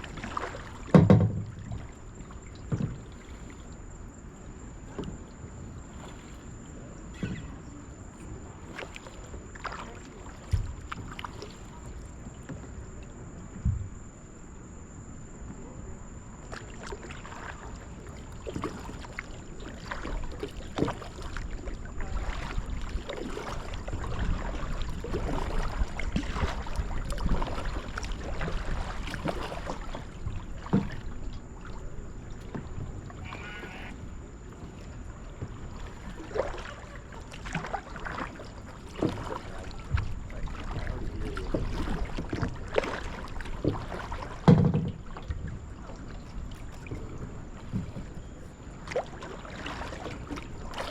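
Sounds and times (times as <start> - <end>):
paddle strokes splashing: 0.0 - 14.0, 15.5 - 50.9
water sloshing against hull: 0.0 - 50.9.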